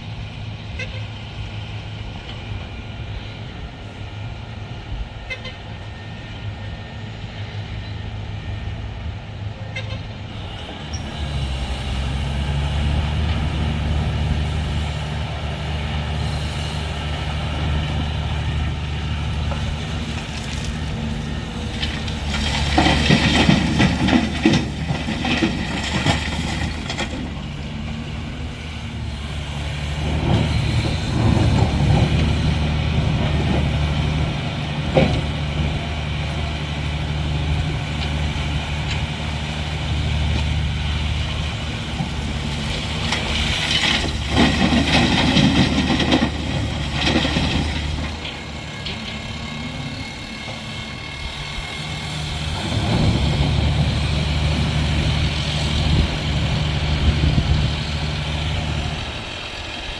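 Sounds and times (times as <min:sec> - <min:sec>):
diesel construction machine running: 0:00.0 - 0:59.9.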